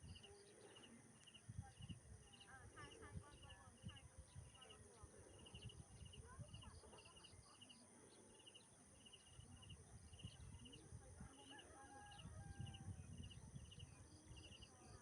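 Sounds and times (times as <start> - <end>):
low rumble of wind: 0.0 - 8.1, 8.7 - 15.0.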